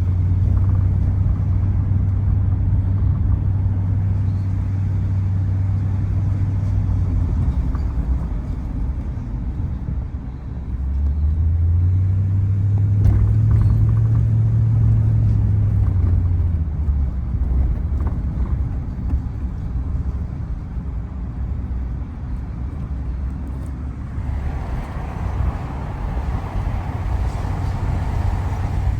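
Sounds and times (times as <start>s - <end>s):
road noise: 0.0s - 28.9s
vehicle engine drone: 0.0s - 28.9s.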